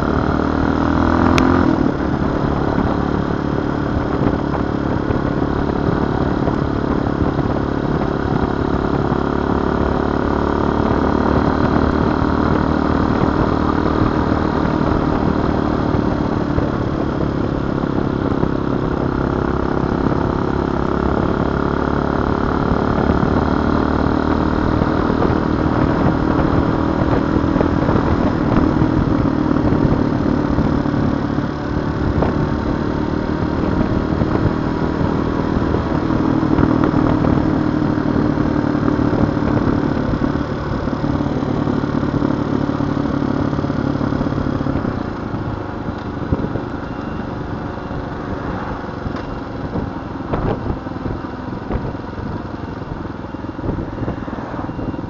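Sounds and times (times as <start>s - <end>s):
dirt bike engine running: 0.0s - 55.0s
wind noise: 0.0s - 55.0s.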